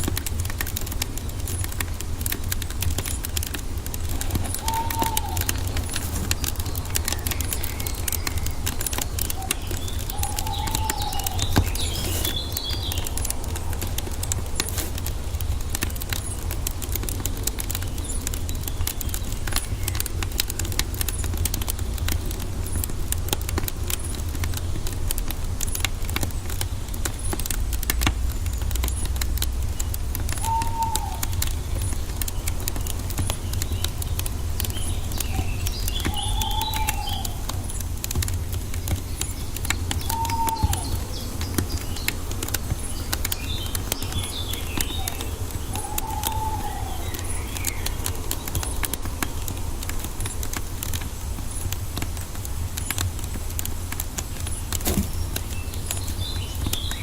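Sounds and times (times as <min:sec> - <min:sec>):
low rumble of flames: 0:00.0 - 0:57.0
wood fire crackling: 0:00.0 - 0:57.0
birds chirping: 0:00.1 - 0:52.0, 0:54.1 - 0:57.0.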